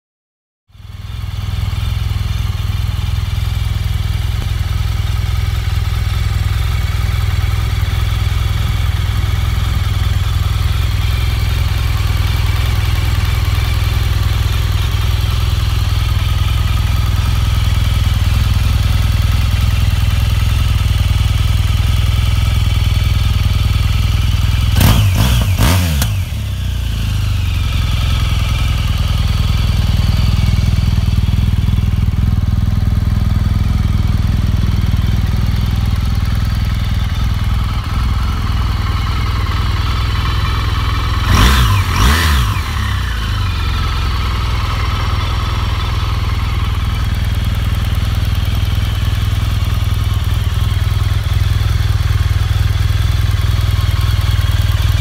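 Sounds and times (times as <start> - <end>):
motorcycle engine idling: 0.7 - 55.0.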